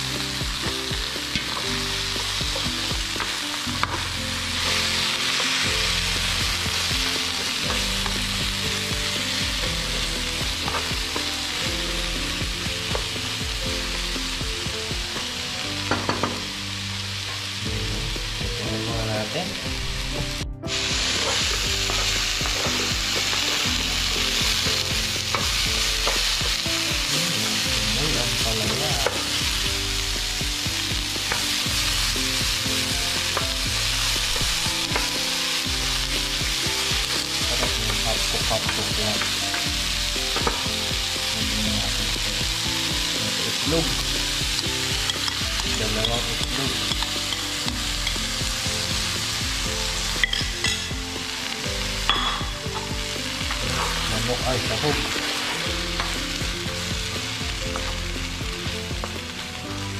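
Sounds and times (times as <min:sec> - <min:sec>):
food sizzling in oil: 0:00.0 - 0:59.9.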